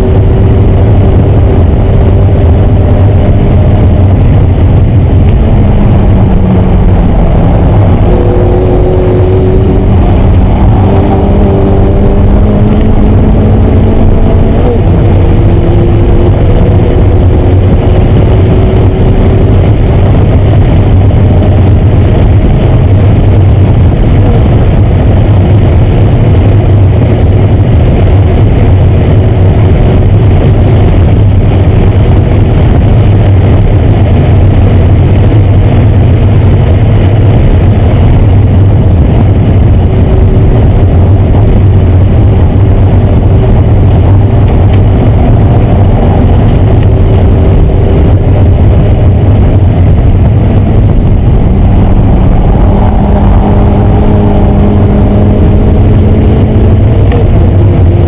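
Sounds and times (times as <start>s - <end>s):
car engine at high revs: 0.0s - 58.0s
wind and road noise: 0.0s - 58.0s.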